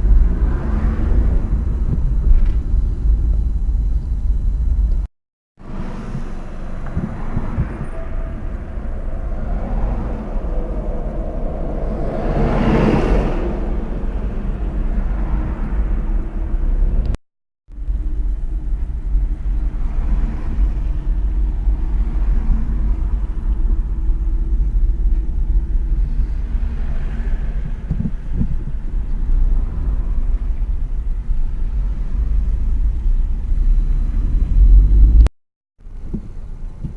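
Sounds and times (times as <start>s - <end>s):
car road and engine rumble: 0.0s - 36.9s.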